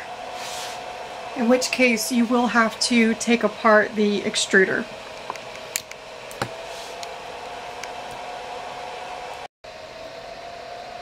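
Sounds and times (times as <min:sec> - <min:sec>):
cooling fans whirring: 0:00.0 - 0:11.0.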